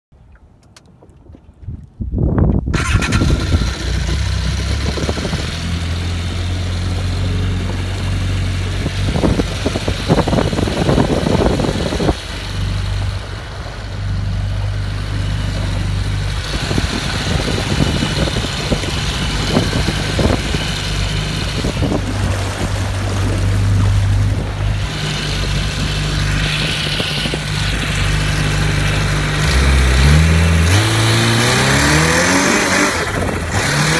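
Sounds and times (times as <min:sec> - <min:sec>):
jet ski engine starting and running: 0:00.2 - 0:33.9.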